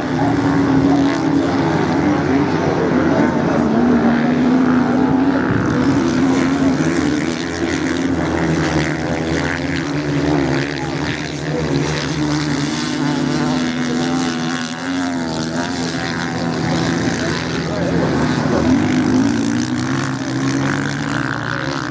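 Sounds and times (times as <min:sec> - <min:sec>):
motorcycle engines revving: 0:00.0 - 0:21.9.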